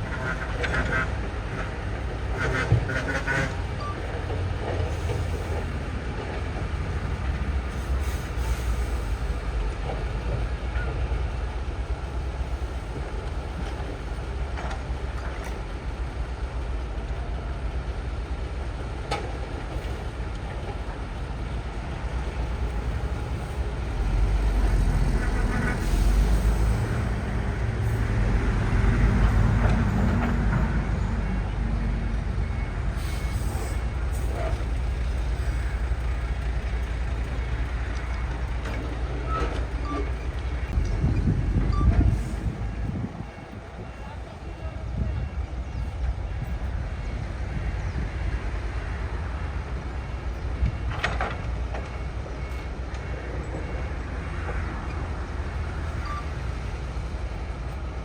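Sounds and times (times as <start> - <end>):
heavy machinery diesel engine rumbling: 0.0 - 58.0.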